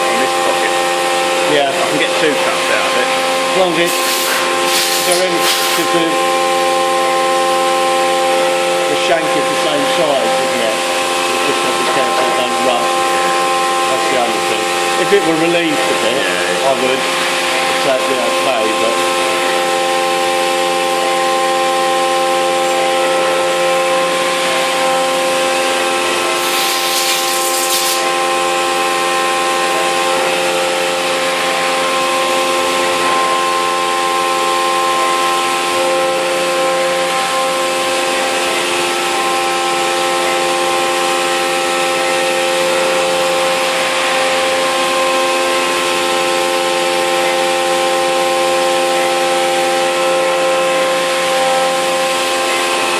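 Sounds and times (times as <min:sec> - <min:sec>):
milling machine cutting whine: 0:00.0 - 0:52.9.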